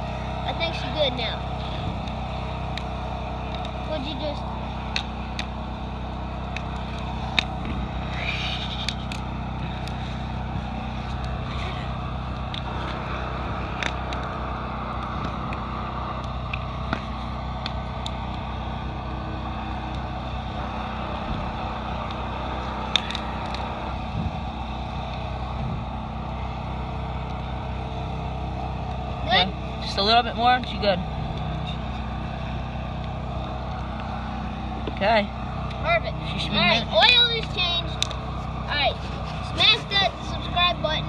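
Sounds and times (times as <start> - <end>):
generator engine running: 0.0 - 41.0.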